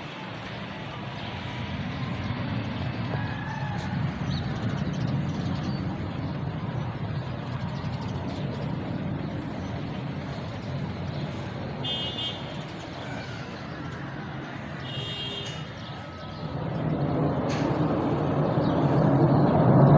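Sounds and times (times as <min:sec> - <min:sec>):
distant jet engine rumble: 0:00.0 - 0:19.9.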